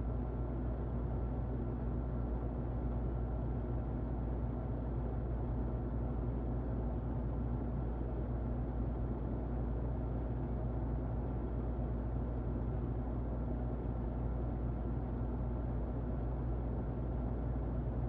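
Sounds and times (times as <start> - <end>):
muffled electric fan running: 0.0 - 18.0.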